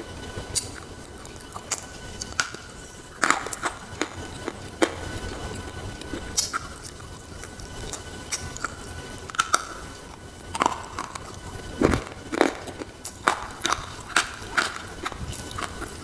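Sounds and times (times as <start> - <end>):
chewing crunches and snaps: 0.5 - 16.0.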